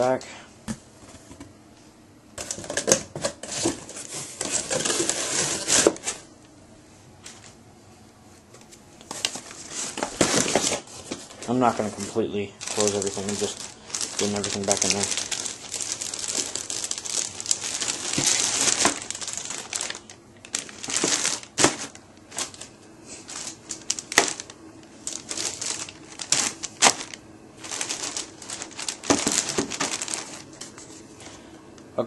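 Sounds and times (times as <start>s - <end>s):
plastic wrapping crinkling: 2.4s - 6.3s, 8.6s - 31.4s.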